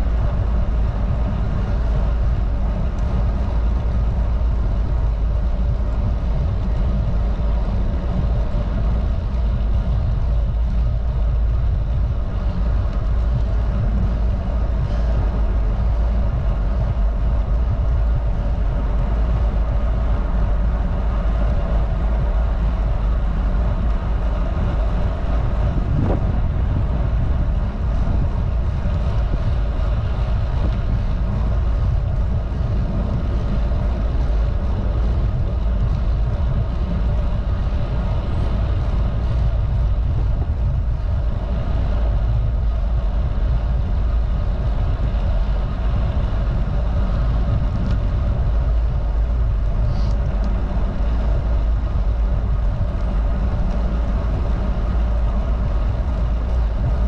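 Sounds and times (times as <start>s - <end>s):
bicycle tyres on asphalt: 0.0s - 57.0s
wind rumble on microphone: 0.0s - 57.0s.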